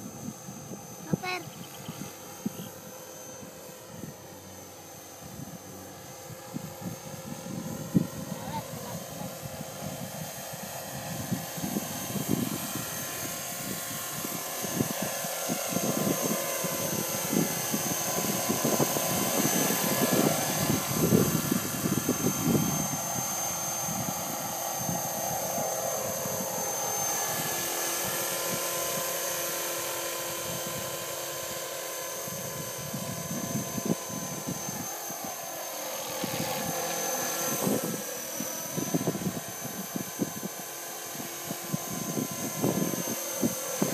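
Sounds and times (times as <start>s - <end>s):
model helicopter motor whine: 0.0s - 43.9s.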